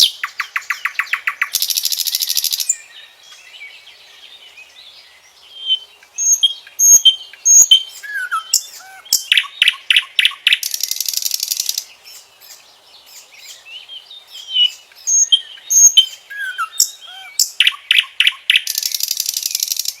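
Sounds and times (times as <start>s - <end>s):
nightingale singing: 0.0s - 20.0s.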